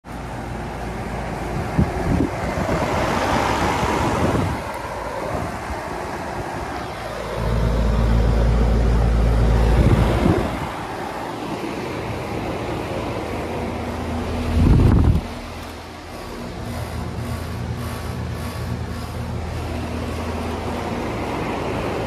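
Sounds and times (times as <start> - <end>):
compressor hum: 0.0 - 22.0
condenser fans rushing: 0.0 - 22.0
deep low fan rumble: 0.0 - 22.0.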